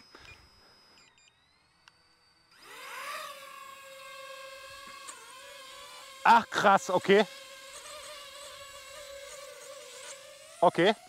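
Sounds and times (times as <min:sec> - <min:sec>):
drone propeller motors whining: 0:00.0 - 0:11.0.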